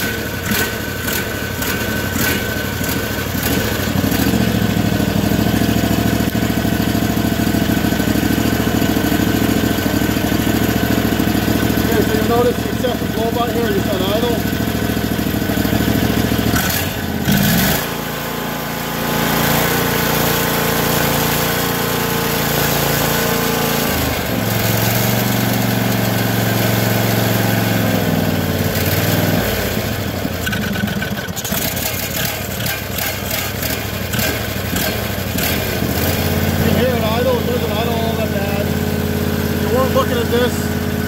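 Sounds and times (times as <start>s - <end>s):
twin-cylinder engine idling: 0.0s - 41.0s.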